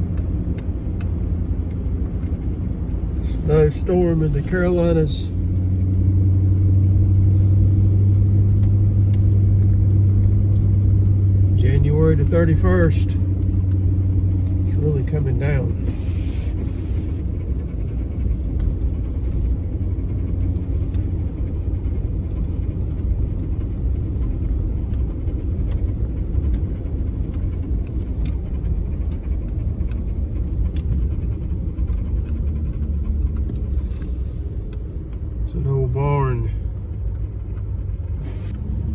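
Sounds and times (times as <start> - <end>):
car driving rumble inside vehicle: 0.0 - 38.9
faint engine hum: 0.0 - 38.9.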